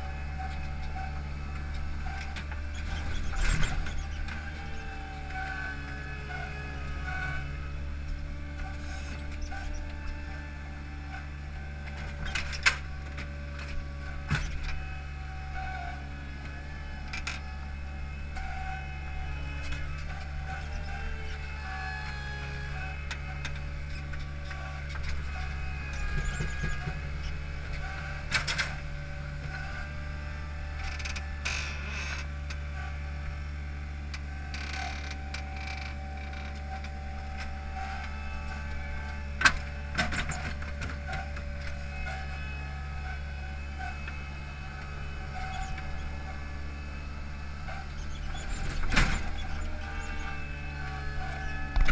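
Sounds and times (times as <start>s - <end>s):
hydraulic whine: 0.0s - 51.9s
machine engine running: 0.0s - 51.9s.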